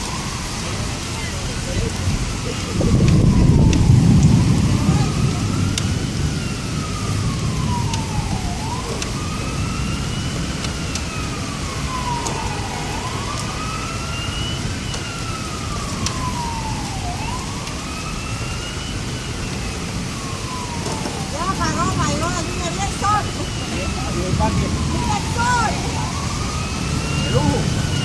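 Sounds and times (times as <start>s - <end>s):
emergency siren wailing: 0.0s - 28.0s
rain rushing: 0.0s - 28.0s.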